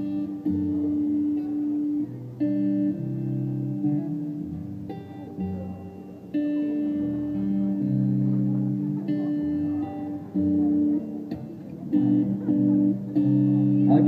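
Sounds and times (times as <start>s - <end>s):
guitar chords strummed: 0.0s - 14.0s.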